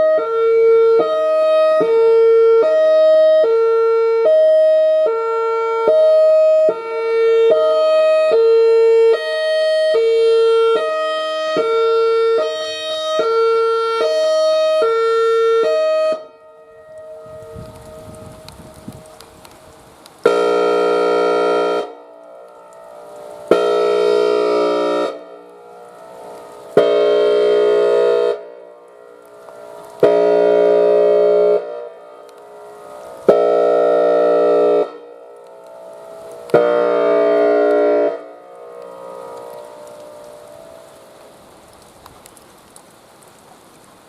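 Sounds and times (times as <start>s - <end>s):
warning siren horn blasts: 0.0s - 19.2s, 20.2s - 41.3s.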